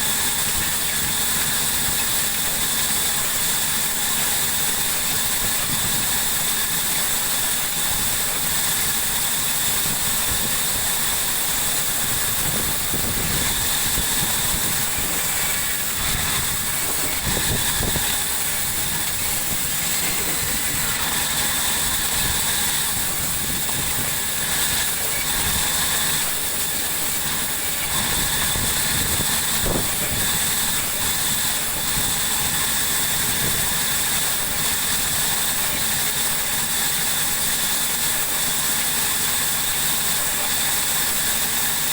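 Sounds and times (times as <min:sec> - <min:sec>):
sawmill saw whining: 0:00.0 - 0:41.9.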